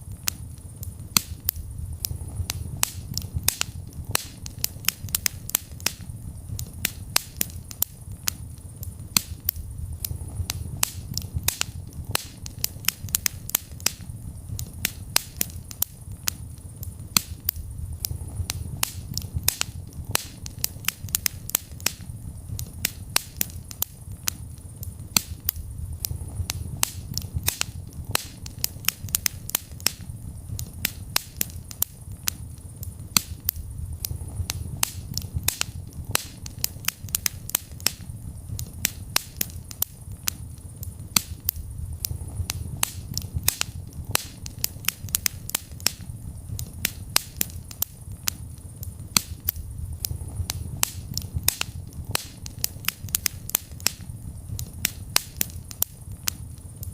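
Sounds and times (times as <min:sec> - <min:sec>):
low rumble of flames: 0:00.0 - 0:56.9
wood fire crackling and popping: 0:00.0 - 0:56.9.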